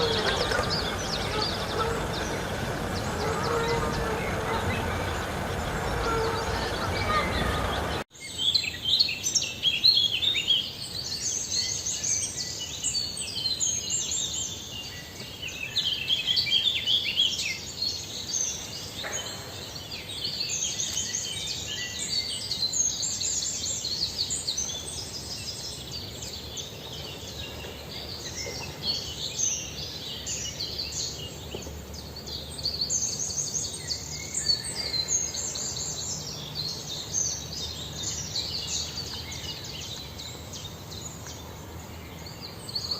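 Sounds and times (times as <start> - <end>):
small birds chirping: 0.0 - 42.9
steady background hiss: 0.0 - 42.9.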